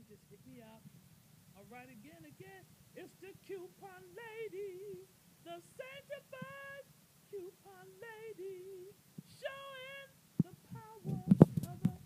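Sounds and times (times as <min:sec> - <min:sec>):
woman singing softly: 0:01.6 - 0:12.0.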